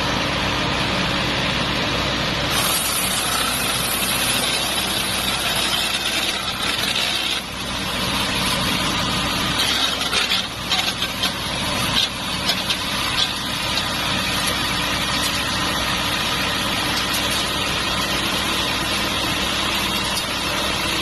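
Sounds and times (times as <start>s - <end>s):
wood chipper engine running: 0.0s - 21.0s.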